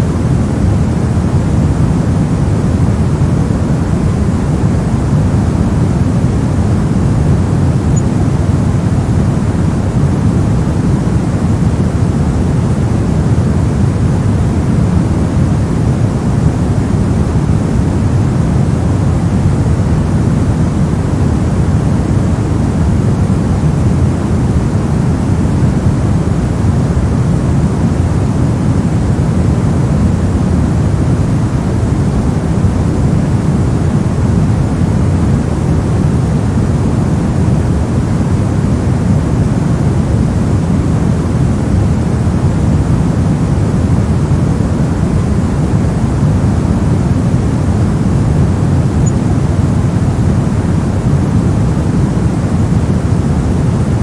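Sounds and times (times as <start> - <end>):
deep rumbling white noise: 0.0 - 54.0.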